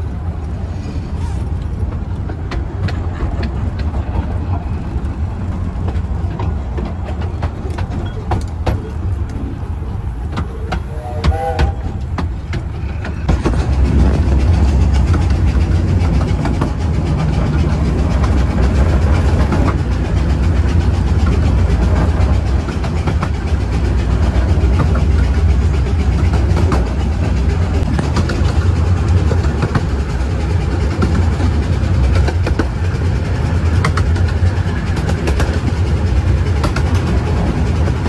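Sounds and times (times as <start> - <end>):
miniature train rumbling on rails: 0.0 - 38.0.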